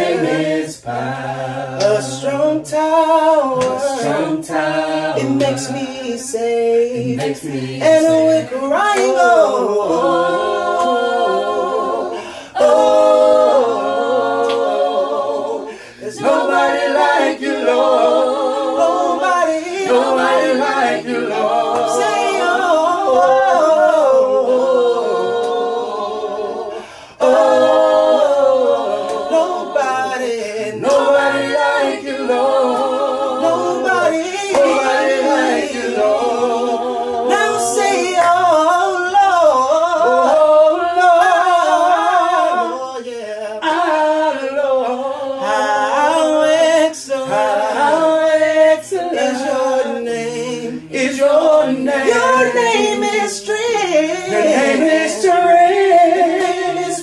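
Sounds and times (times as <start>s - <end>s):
group singing a cappella gospel: 0.0s - 57.0s.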